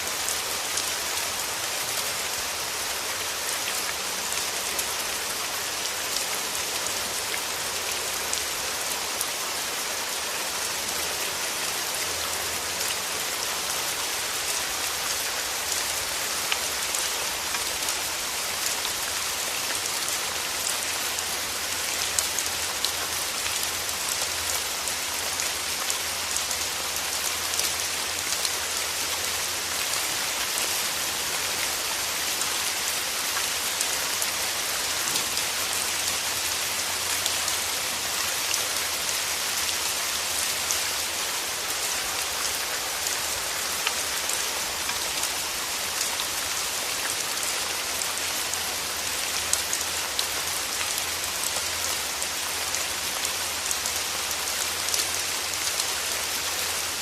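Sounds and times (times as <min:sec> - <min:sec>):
rain falling through trees: 0:00.0 - 0:57.0.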